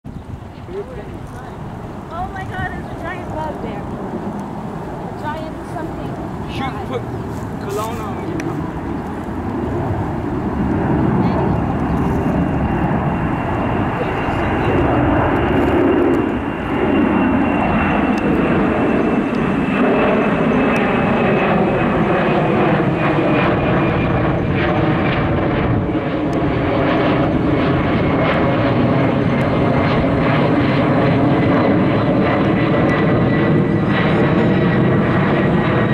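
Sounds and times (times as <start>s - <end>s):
jet airliner engines roaring: 0.1s - 35.9s.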